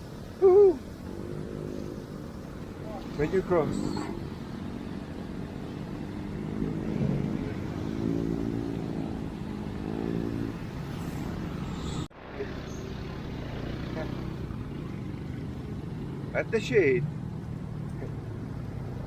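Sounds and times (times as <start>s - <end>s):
motor vehicles passing: 0.0s - 19.0s.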